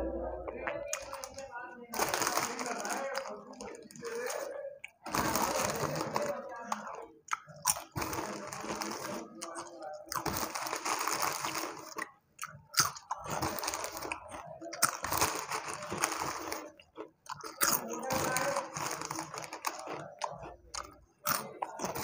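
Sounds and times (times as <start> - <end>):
plastic snack packet rustling: 0.9 - 12.1, 12.7 - 22.0
crunching and chewing snacks: 0.9 - 22.0.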